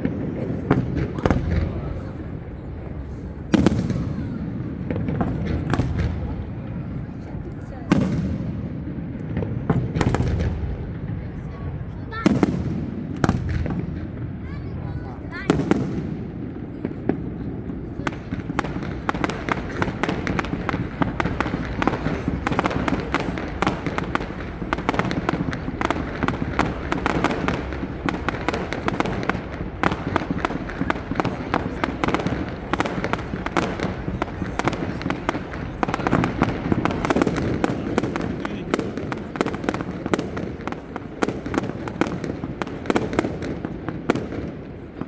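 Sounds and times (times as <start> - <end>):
fireworks crackling and popping: 0.0 - 45.0.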